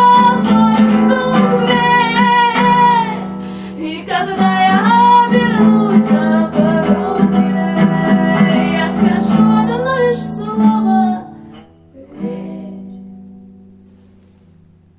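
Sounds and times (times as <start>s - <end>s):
person singing: 0.0s - 13.2s
acoustic guitar: 0.0s - 14.9s.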